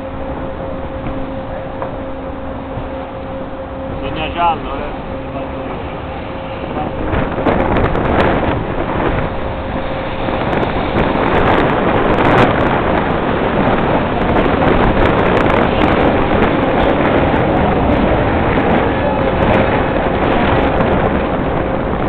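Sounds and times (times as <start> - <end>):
boat running noise: 0.0 - 22.0
wind on microphone: 0.0 - 22.0.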